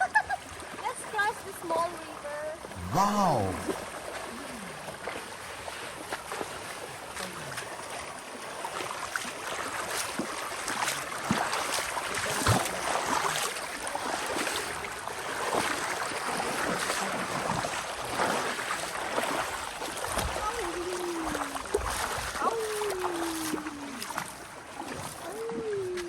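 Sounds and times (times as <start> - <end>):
splashes of people wading: 0.0 - 26.0
shallow river rushing: 2.9 - 25.3.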